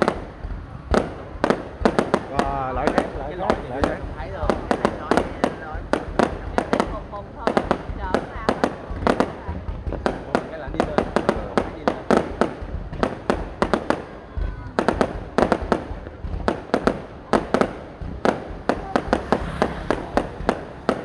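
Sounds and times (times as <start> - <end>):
continuous low rumble: 0.0 - 21.0
fireworks bangs and cracks: 0.0 - 21.0.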